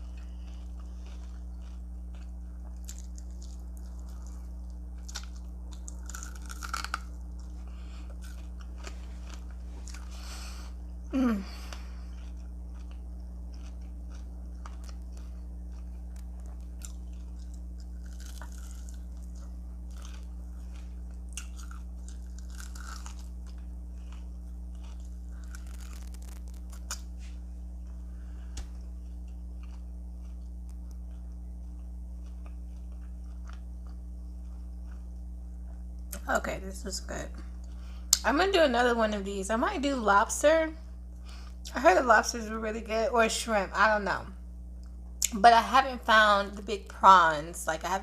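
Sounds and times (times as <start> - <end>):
chewing and crunching food: 0.0 - 36.3, 37.3 - 38.6, 41.0 - 41.8
low electrical hum: 0.0 - 48.0.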